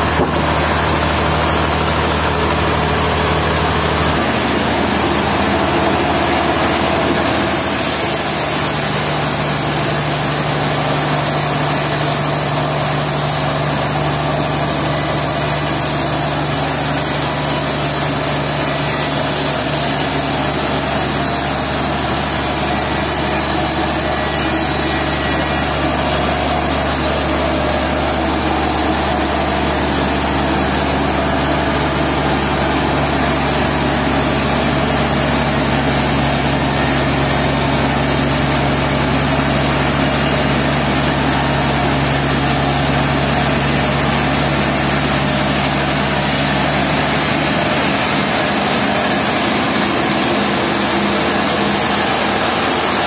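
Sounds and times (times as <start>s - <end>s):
dense mechanical noise: 0.0s - 53.0s
sawmill engine running: 0.0s - 53.0s.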